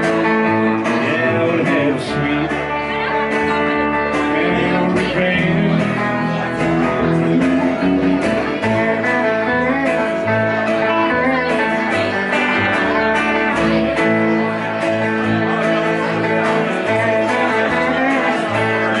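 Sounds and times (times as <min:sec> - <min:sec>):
electric guitar: 0:00.0 - 0:19.0
plucked upright bass: 0:00.0 - 0:19.0
second guitar: 0:00.0 - 0:19.0.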